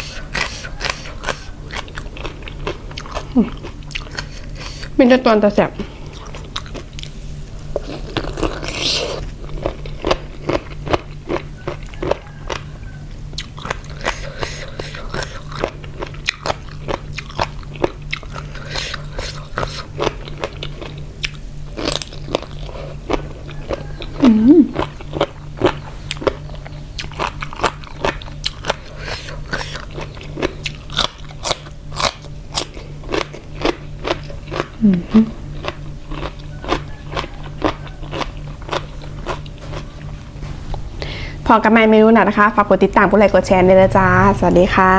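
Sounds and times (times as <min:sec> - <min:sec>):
crunchy chewing: 0:00.0 - 0:41.5.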